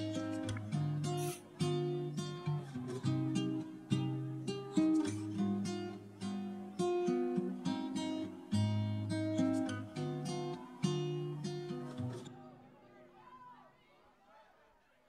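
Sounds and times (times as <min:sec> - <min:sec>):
acoustic guitar strummed and picked: 0:00.0 - 0:12.5.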